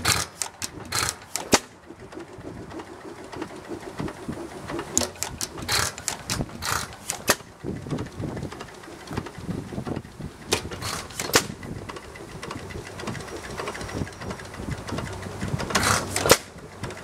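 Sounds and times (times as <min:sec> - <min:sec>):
engine firing beats: 0:00.0 - 0:17.0
engine mechanical clatter: 0:00.0 - 0:17.0.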